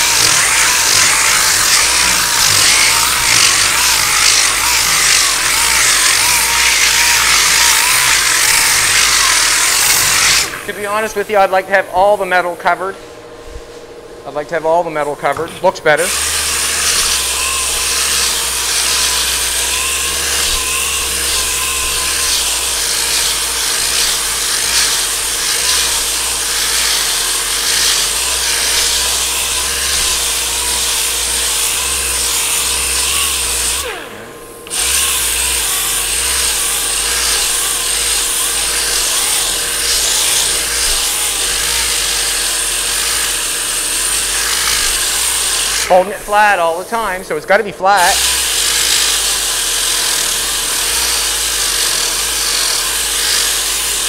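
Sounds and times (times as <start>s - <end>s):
power sander running: 0.0s - 13.1s, 14.6s - 54.0s.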